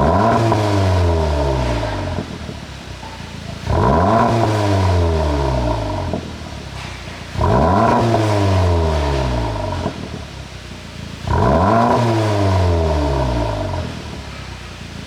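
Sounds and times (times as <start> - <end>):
car engine revving: 0.0 - 2.9, 3.5 - 14.8
exhaust crackles and pops: 0.0 - 15.0.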